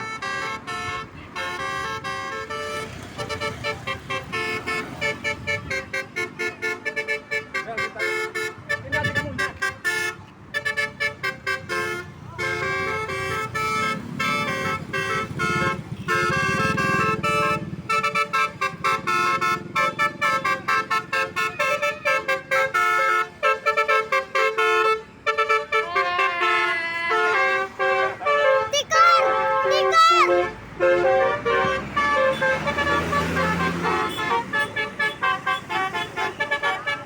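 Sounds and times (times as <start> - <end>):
bus musical horn playing notes: 0.0 - 37.0.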